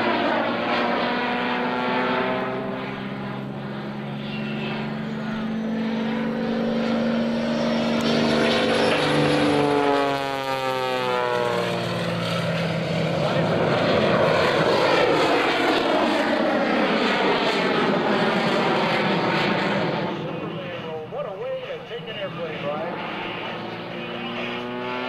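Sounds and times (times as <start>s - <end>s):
biplane engine and propeller droning: 0.0s - 25.0s.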